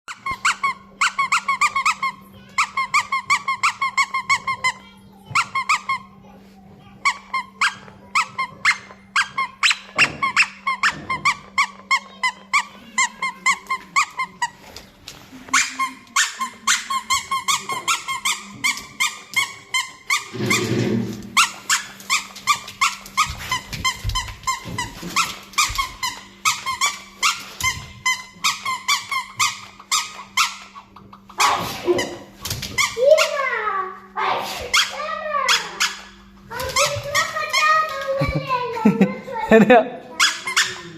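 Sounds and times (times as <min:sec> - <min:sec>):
squeaky toy squeaking: 0:00.1 - 0:06.2, 0:07.0 - 0:14.8, 0:15.5 - 0:33.7, 0:34.6 - 0:38.2, 0:40.1 - 0:40.9.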